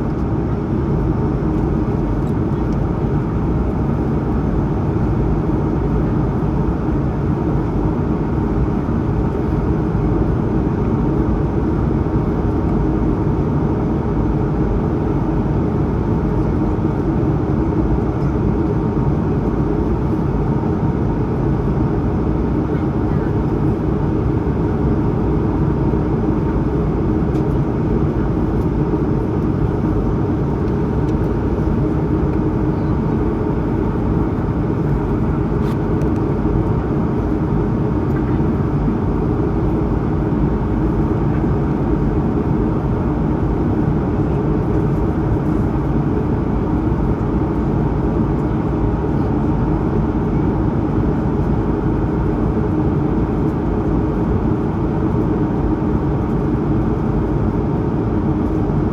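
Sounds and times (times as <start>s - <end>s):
airplane cabin engine rumble: 0.0s - 58.9s.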